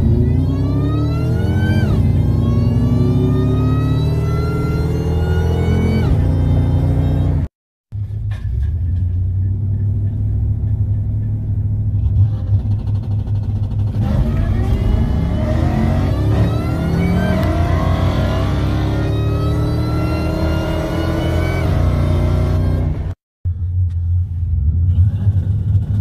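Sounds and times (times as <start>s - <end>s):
truck engine rumbling and accelerating: 0.0s - 26.0s.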